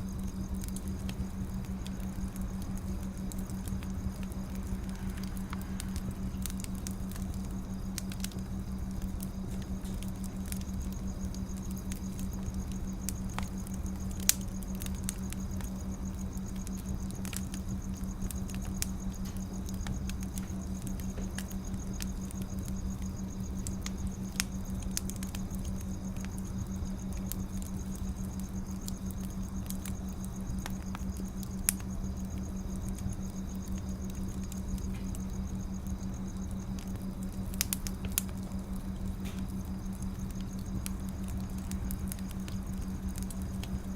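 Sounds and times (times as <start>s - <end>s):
soft hiss: 0.0s - 43.9s
steady low hum: 0.0s - 43.9s
wood fire crackling and popping: 0.0s - 43.9s.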